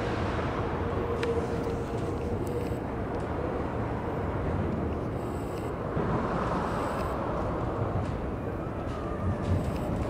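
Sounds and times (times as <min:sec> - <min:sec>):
faint steady tone: 0:00.0 - 0:08.9
low city rumble: 0:00.0 - 0:10.0.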